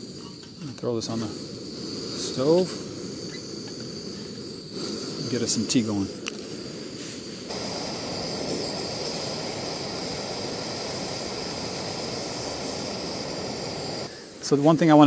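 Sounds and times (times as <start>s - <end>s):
gas stove burner hiss: 0.0s - 15.0s.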